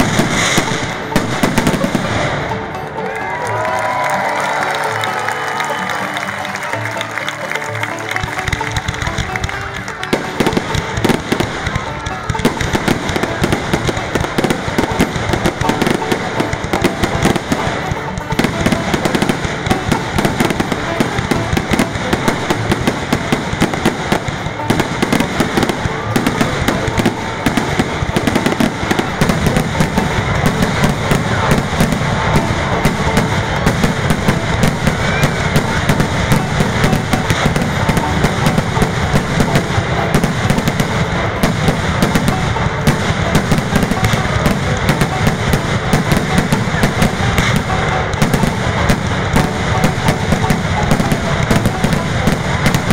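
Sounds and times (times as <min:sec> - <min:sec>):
low booms of fireworks: 0:00.0 - 0:02.8, 0:07.8 - 0:52.9
fireworks bursting and crackling: 0:00.0 - 0:52.9.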